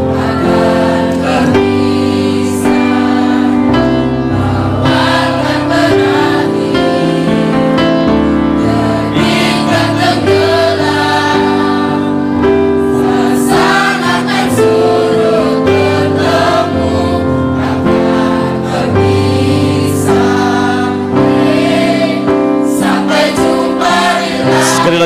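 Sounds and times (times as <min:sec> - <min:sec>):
mixed choir singing in harmony: 0:00.0 - 0:25.0.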